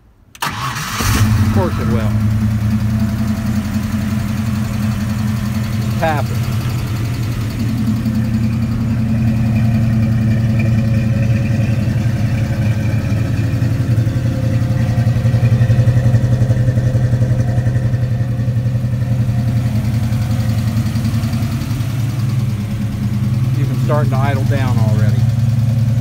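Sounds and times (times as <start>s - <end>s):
car engine fast idle: 0.4s - 26.0s.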